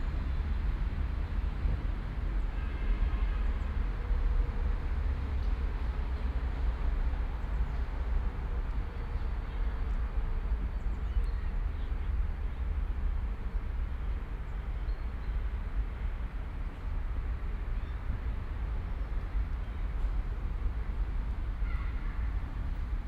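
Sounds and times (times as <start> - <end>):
distant city traffic rumble: 0.0 - 23.0.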